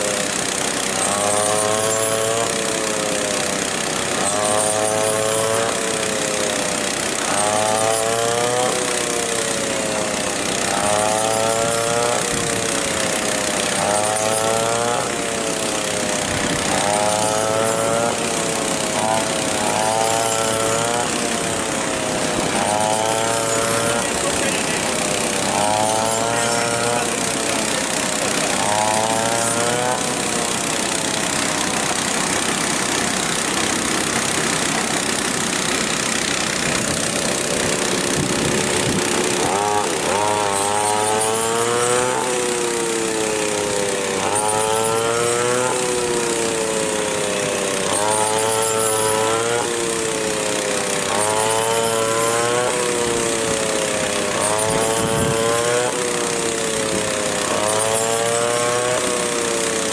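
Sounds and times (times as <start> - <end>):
rushing mechanical noise: 0.0 - 59.9
small engine running: 0.0 - 59.9.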